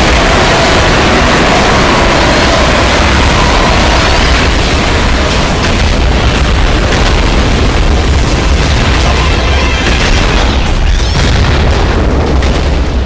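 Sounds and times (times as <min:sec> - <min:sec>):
distorted bass rumble: 0:00.0 - 0:13.0.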